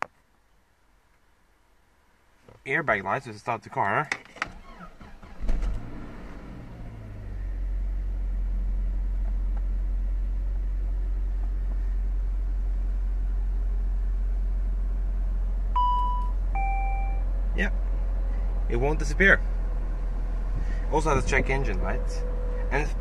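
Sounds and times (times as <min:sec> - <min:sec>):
car engine starting and idling: 0:03.9 - 0:23.0.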